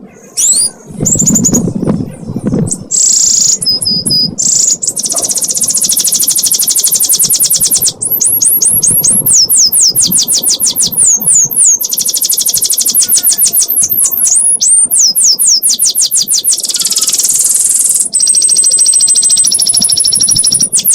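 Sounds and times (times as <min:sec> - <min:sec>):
canary singing: 0:00.0 - 0:20.9.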